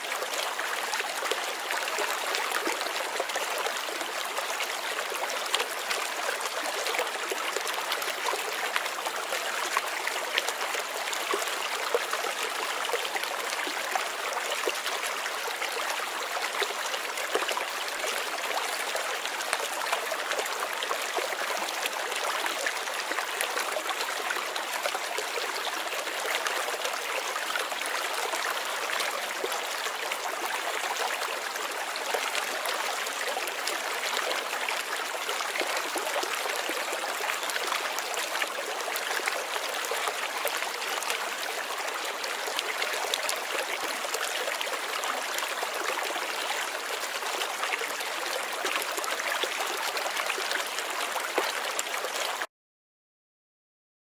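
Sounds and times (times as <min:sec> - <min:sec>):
stream babbling: 0:00.0 - 0:52.4.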